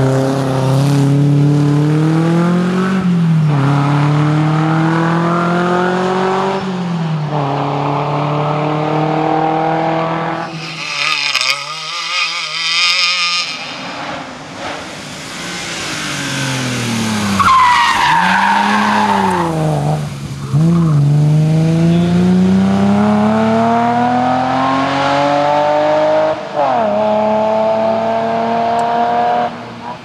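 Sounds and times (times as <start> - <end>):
rally car engine accelerating: 0.0 - 30.0.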